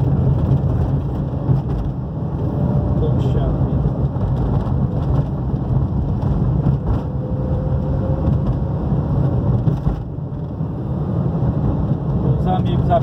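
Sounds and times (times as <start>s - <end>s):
car tyres and engine rumbling: 0.0s - 13.0s.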